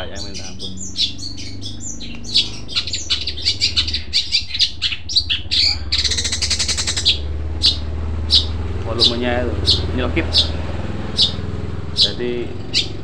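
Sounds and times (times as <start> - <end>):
harsh buzzing bird rattle: 0.0 - 13.0
shrike singing sharp chirps: 0.0 - 13.0.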